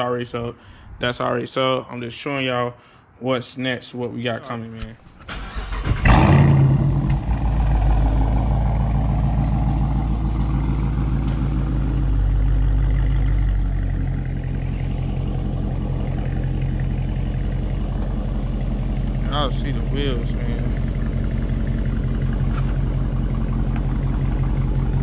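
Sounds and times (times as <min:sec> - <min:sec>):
car engine starting and idling: 0:04.8 - 0:25.0.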